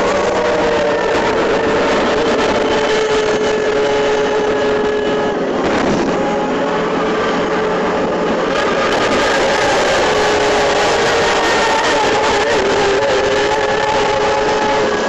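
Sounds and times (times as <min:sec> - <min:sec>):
boat motor running: 0:00.0 - 0:15.0
loud rushing noise: 0:00.0 - 0:15.0.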